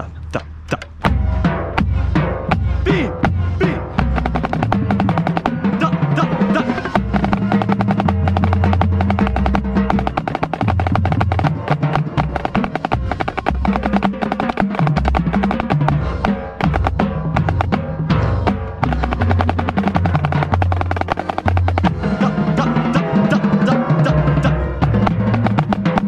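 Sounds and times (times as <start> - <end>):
marching snare drum rolls: 1.0 - 26.0.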